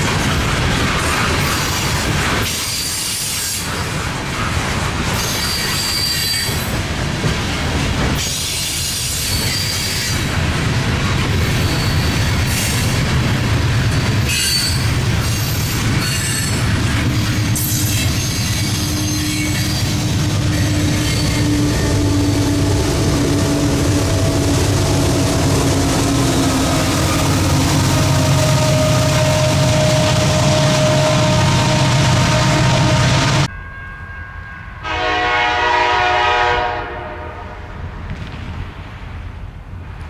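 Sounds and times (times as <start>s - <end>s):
freight train rumble and clatter: 0.0s - 40.0s.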